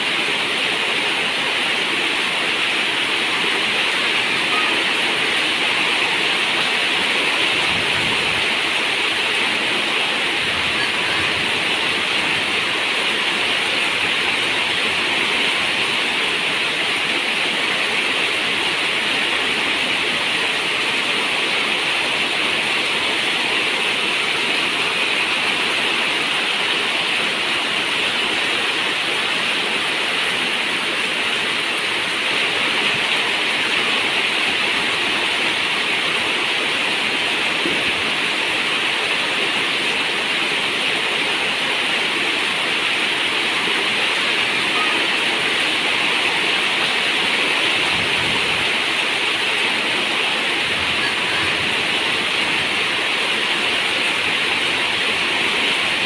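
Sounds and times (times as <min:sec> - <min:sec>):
heavy rain on a metal roof: 0:00.0 - 0:56.0.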